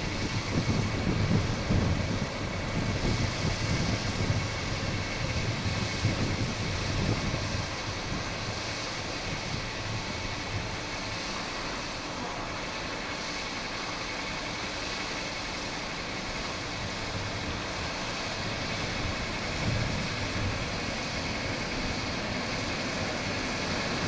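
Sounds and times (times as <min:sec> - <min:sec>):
distant train rumbling: 0:00.0 - 0:24.0.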